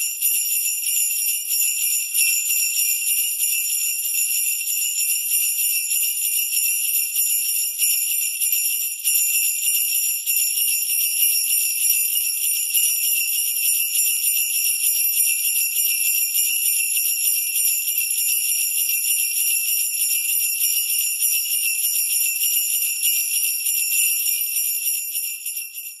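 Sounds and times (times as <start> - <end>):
sleigh bells jingling: 0.0 - 26.0.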